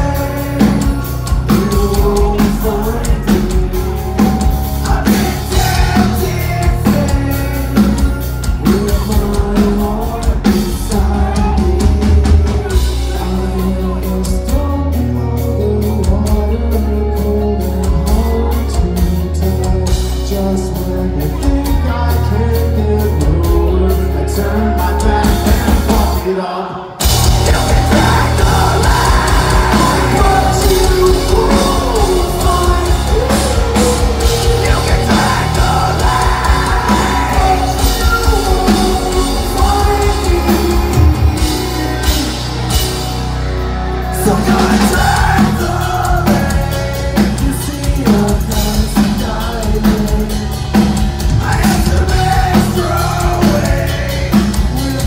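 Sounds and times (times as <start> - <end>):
metal band playing live: 0.0 - 55.0.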